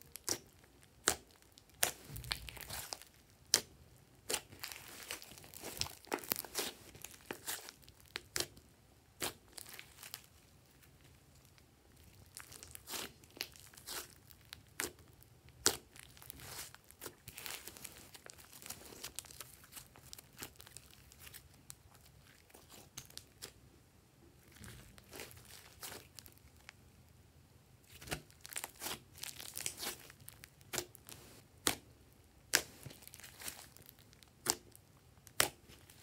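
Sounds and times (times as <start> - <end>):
slime crackling and popping: 0.0 - 10.8, 11.4 - 23.6, 24.5 - 26.8, 27.9 - 36.0.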